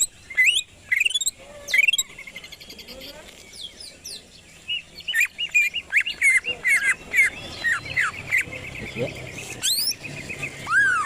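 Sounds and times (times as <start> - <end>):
bird singing chirps and whistles: 0.0 - 11.0.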